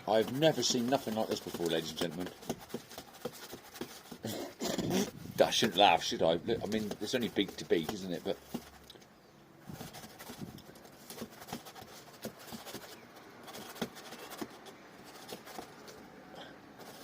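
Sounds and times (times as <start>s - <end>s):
seagulls fighting taps and scuffles: 0.0s - 17.0s.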